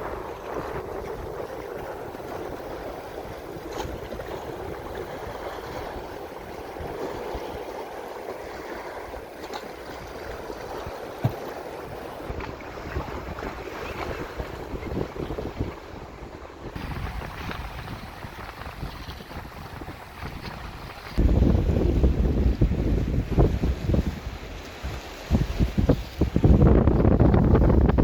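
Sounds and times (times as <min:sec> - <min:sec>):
sea waves washing ashore: 0:00.0 - 0:28.0
wind gusting on microphone: 0:00.0 - 0:28.0.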